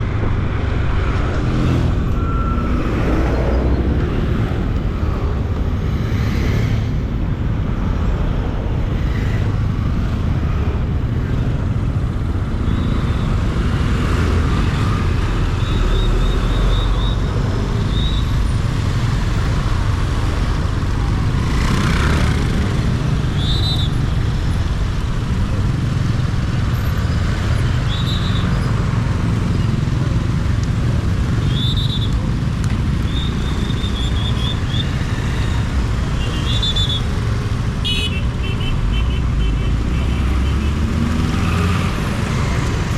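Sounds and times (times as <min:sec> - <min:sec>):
street traffic: 0:00.0 - 0:42.9.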